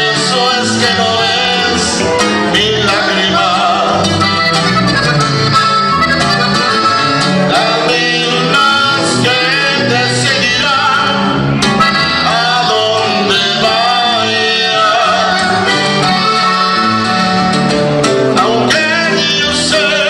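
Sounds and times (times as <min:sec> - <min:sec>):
button accordion melody: 0:00.0 - 0:20.0
electric bass: 0:00.0 - 0:20.0
strummed guitar: 0:00.0 - 0:20.0.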